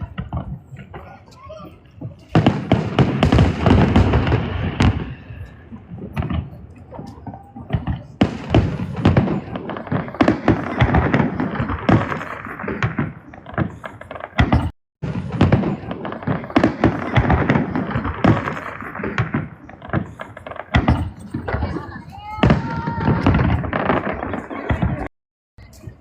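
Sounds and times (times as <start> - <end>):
firework booms: 0.0 - 1.2, 2.0 - 25.1
firework crackle: 0.0 - 25.1.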